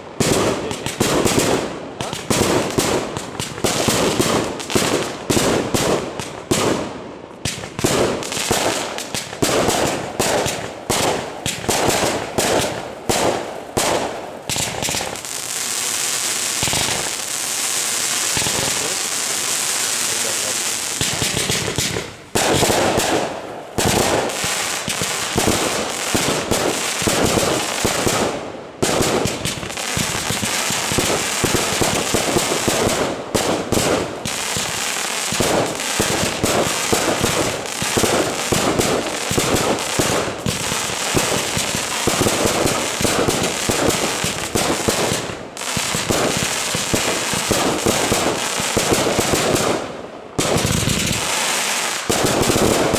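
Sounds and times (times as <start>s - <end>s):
fireworks crackling and banging: 0.0s - 52.9s.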